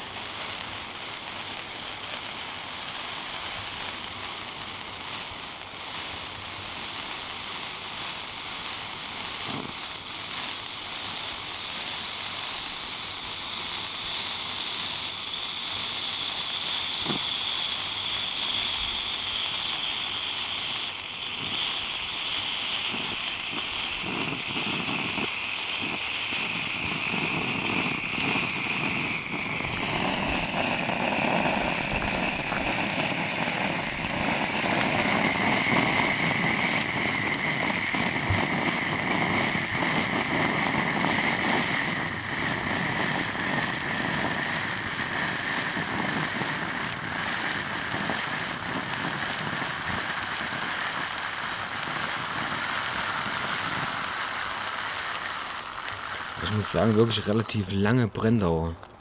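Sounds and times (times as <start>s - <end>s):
sparkler fountains hissing: 0.0s - 59.0s
sparks crackling: 0.0s - 59.0s.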